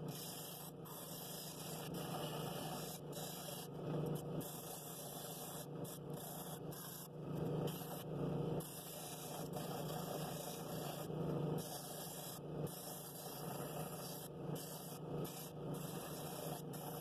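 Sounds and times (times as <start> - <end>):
drill press motor hum: 0.0 - 17.0
scratchy sanding rasp: 0.1 - 7.0, 8.6 - 17.0.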